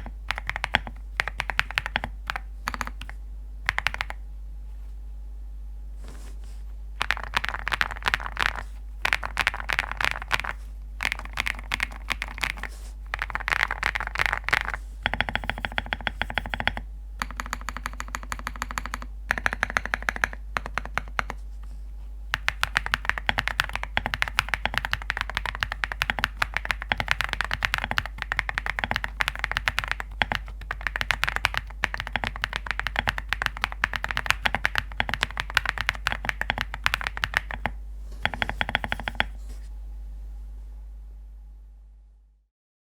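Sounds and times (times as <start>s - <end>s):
mechanical keyboard typing: 0.0s - 4.2s, 7.0s - 21.4s, 22.3s - 39.4s.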